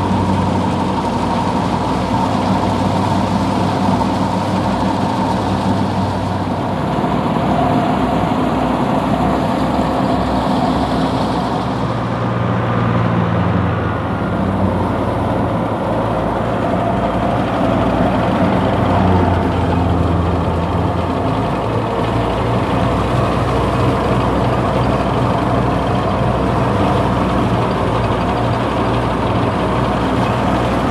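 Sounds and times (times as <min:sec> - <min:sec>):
threshing machine droning: 0:00.0 - 0:12.9, 0:13.7 - 0:30.9
tractor diesel engine under load: 0:00.0 - 0:30.9.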